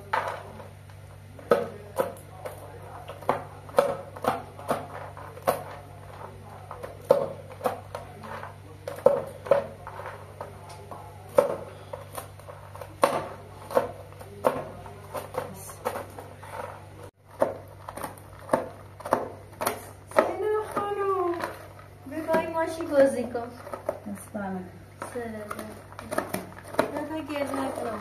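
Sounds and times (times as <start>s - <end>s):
knife chopping on plastic tray: 1.4s - 24.0s, 25.1s - 28.0s.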